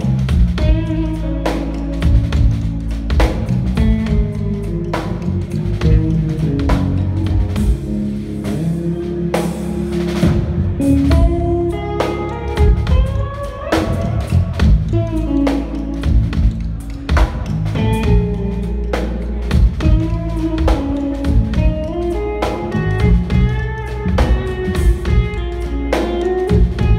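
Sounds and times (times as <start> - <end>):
drum kit: 0.0 - 26.9
electric guitar lead: 0.0 - 26.9.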